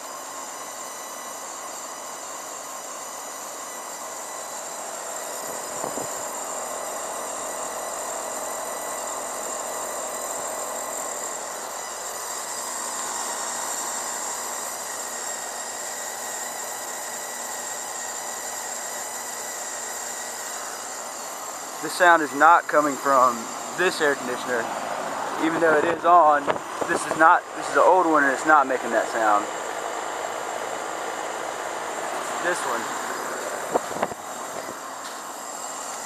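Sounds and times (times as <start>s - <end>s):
condenser fan rushing: 0.0s - 36.0s.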